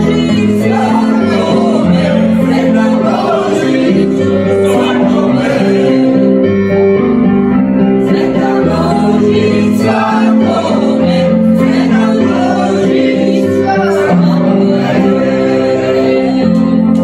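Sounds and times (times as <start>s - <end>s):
children singing together: 0.0s - 6.4s, 8.0s - 17.0s
electronic keyboard chords: 0.0s - 17.0s.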